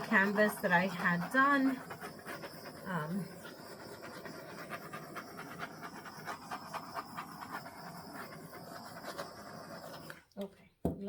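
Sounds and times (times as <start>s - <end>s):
torch flame rushing: 0.0s - 10.2s.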